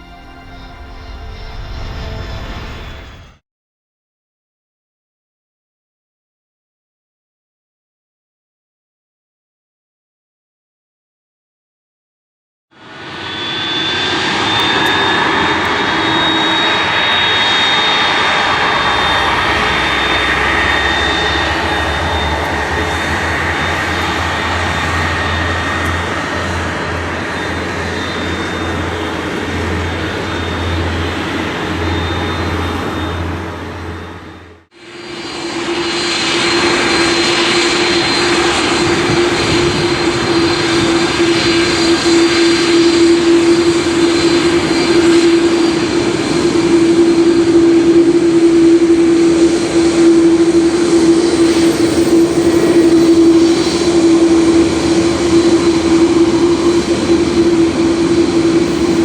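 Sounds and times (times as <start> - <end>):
jet engines at high power: 0.0 - 3.4, 12.8 - 59.0.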